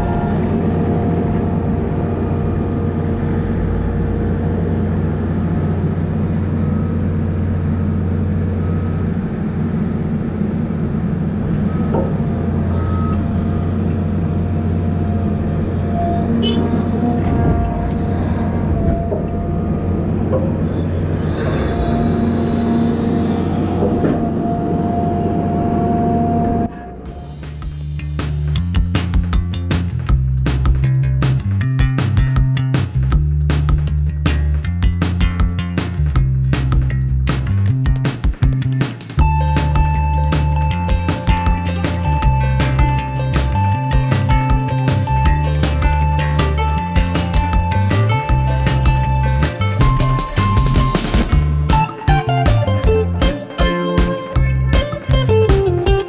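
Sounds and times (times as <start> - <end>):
truck diesel engine humming: 0.0 - 56.0.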